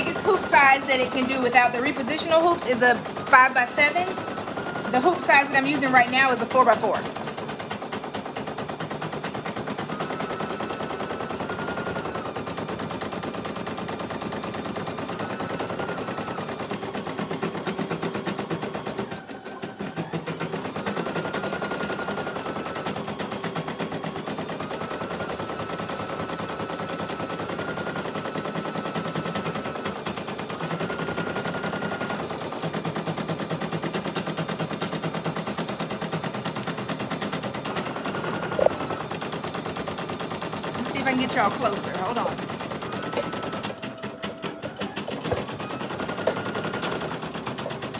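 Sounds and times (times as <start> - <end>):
embroidery machine needle clatter: 0.0 - 47.9.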